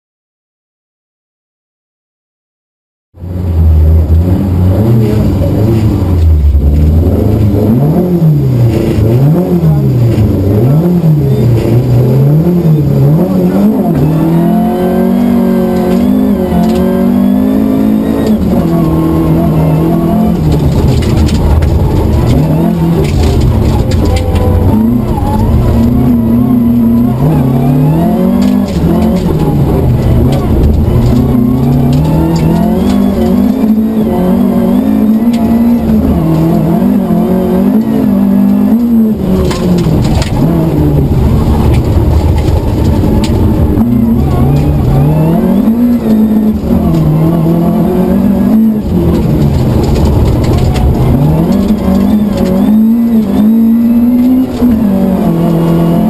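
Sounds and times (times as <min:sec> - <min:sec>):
rally car engine revving: 0:03.2 - 0:56.0.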